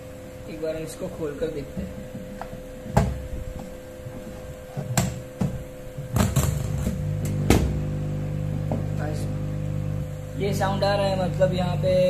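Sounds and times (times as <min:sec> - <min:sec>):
low electrical buzz: 0:00.0 - 0:12.0
steady electrical hum: 0:00.0 - 0:12.0.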